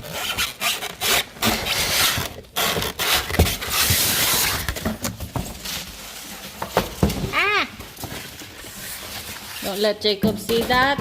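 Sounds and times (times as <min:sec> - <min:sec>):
cardboard rubbing and scraping: 0:00.0 - 0:07.1, 0:07.8 - 0:09.9.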